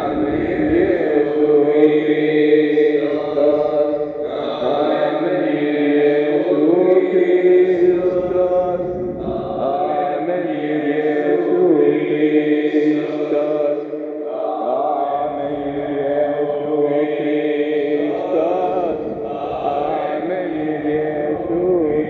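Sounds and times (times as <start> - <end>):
person chanting a mantra: 0.0 - 22.0.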